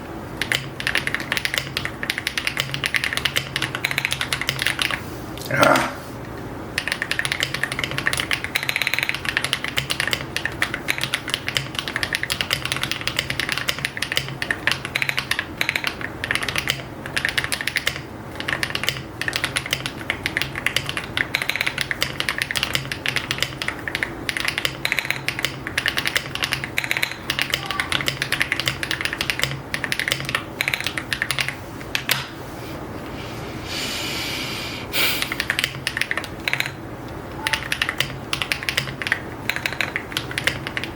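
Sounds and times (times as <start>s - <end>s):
mechanical keyboard typing: 0.4s - 5.0s, 6.8s - 32.3s, 35.4s - 40.9s.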